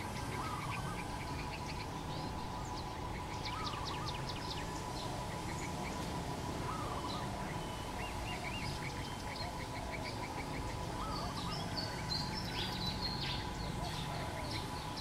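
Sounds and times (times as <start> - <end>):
faint steady hum: 0.0 - 15.0
small birds chirping: 0.0 - 15.0.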